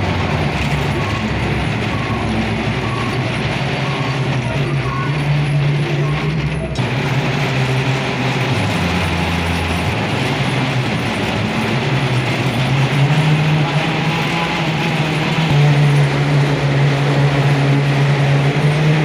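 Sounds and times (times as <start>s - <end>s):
rumbling rushing noise: 0.0s - 19.0s
vehicle engine running: 0.0s - 19.0s.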